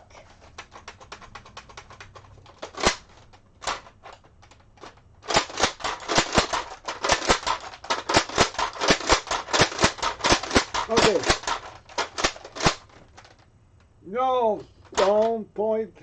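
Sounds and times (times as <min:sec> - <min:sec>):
toy blaster plastic clicks: 0:00.4 - 0:13.4, 0:15.0 - 0:15.3.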